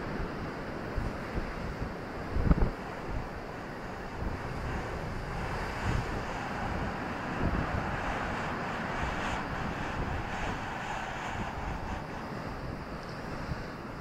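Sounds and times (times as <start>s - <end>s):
sea surf breaking on shore: 0.0s - 14.0s
wind buffeting microphone: 0.0s - 14.0s.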